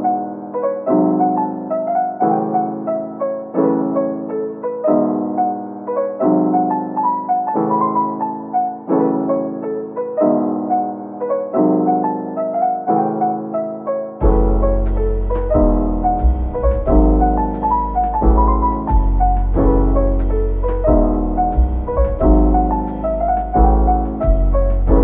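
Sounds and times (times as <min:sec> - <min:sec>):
gentle piano piece: 0:00.0 - 0:25.0.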